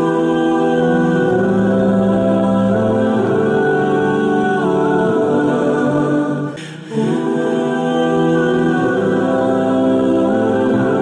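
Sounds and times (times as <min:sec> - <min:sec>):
choir-like voices holding notes: 0:00.0 - 0:11.0.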